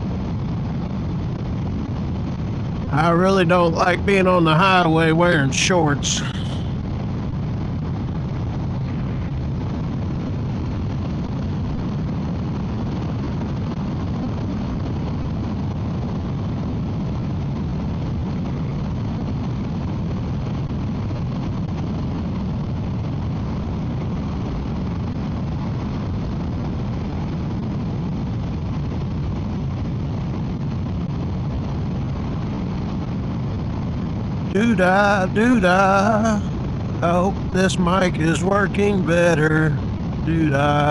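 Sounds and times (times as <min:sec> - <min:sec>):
motorcycle engine and road noise: 0:00.0 - 0:40.9.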